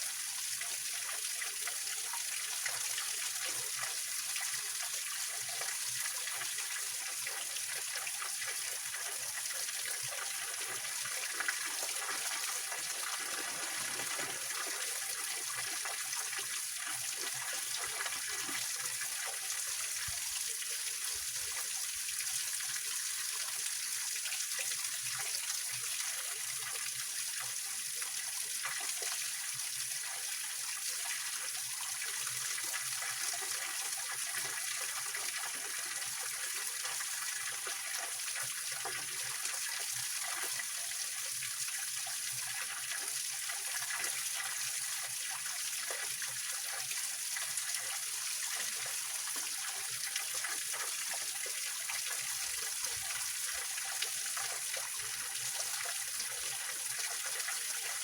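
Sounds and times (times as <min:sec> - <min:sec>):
stream over rocks: 0:00.0 - 0:58.0.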